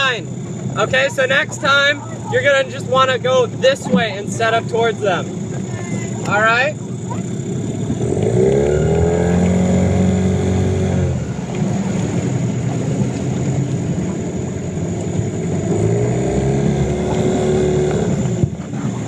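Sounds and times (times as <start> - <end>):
outboard motor revving: 0.0 - 19.0.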